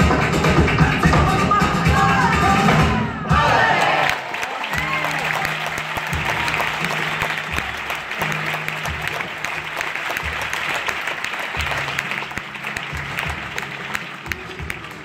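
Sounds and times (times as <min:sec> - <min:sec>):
hand clapping: 0:00.0 - 0:02.7, 0:04.0 - 0:15.0
flamenco music: 0:00.0 - 0:15.0.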